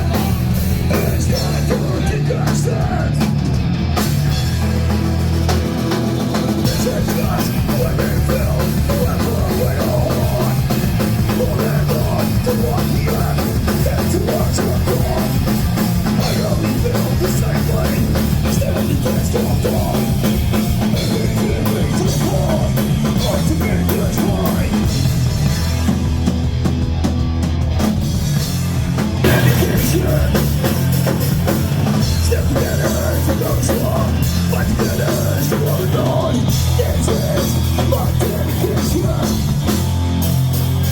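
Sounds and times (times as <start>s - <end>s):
distorted guitars and bass: 0.0s - 40.9s
hardcore punk rock band: 0.0s - 40.9s
pounding drum kit: 0.0s - 40.9s.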